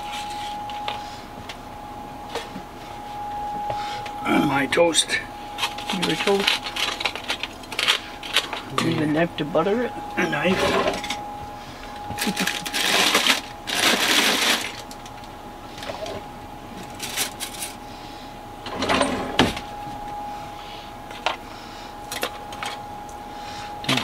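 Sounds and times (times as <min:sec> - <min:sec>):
faint steady tone: 0:00.0 - 0:24.0.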